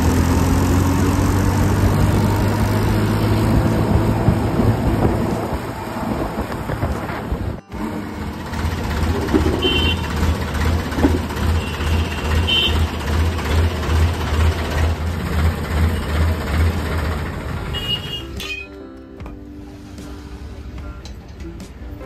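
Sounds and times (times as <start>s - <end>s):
tractor engine throbbing: 0.0s - 18.7s.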